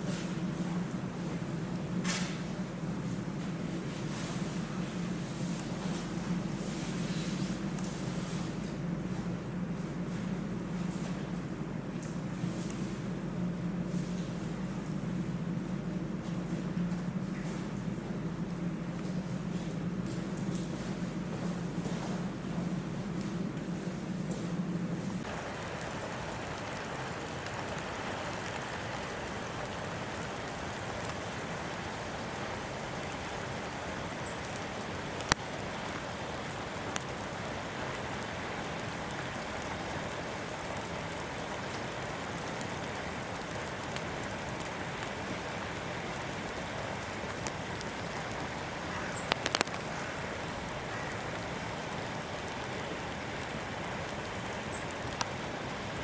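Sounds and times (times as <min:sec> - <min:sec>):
hiss of falling precipitation: 0:00.0 - 0:56.0.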